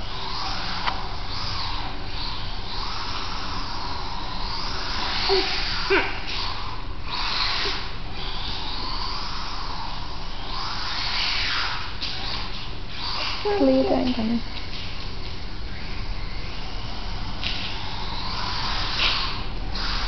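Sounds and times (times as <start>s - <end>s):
rc car motor whine: 0.0s - 20.0s.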